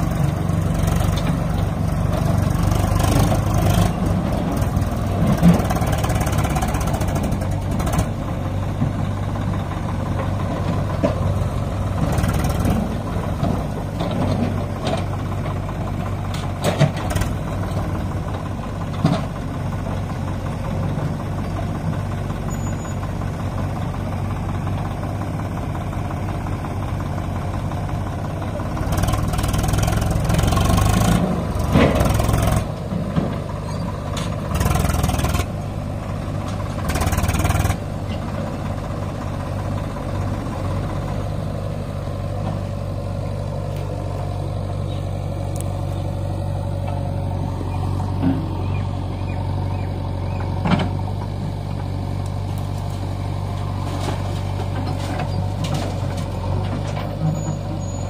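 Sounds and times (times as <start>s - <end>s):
diesel engines droning: 0.0s - 58.0s.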